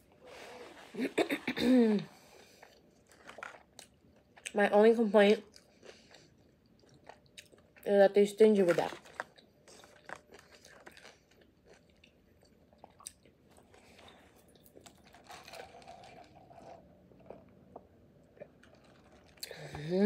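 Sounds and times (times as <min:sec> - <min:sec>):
chewing with small crunches: 0:02.3 - 0:19.7.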